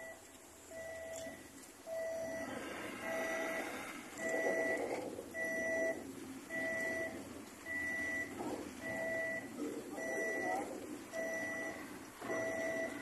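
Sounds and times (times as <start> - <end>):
machinery warning beeper: 0.0 - 13.0
steady background noise: 0.0 - 13.0.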